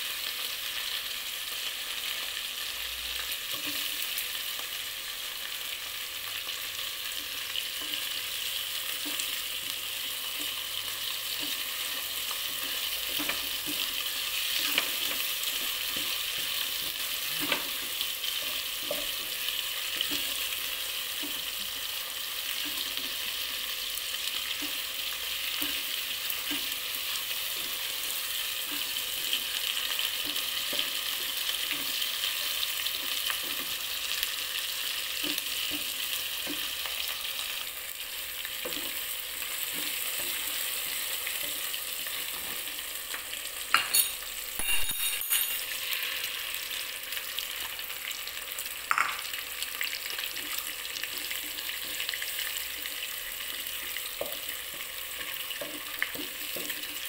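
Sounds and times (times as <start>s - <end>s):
shrimp sizzling in hot oil: 0.0s - 57.0s.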